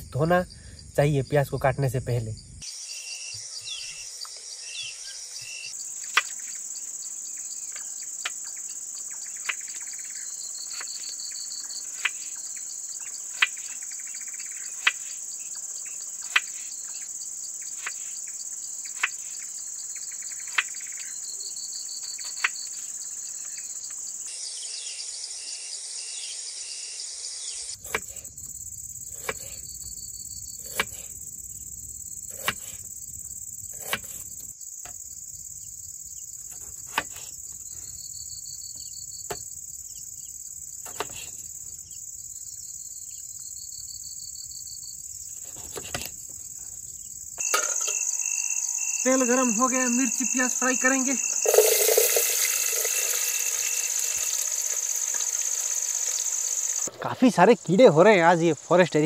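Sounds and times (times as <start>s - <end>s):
night insects trilling: 0.0s - 59.0s.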